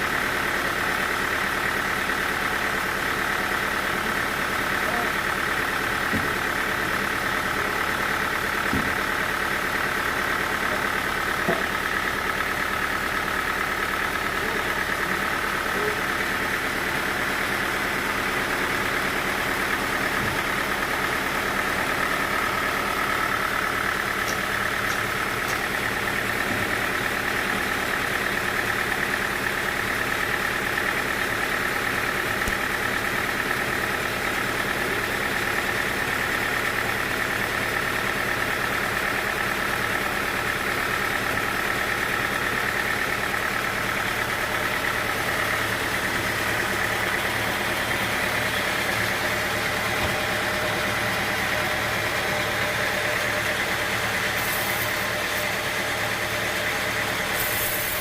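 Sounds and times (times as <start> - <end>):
sawmill machinery whining: 0.8 - 58.0.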